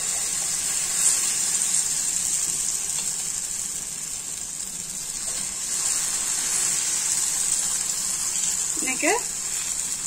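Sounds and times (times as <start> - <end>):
batter sizzling on griddle: 0.0 - 10.0.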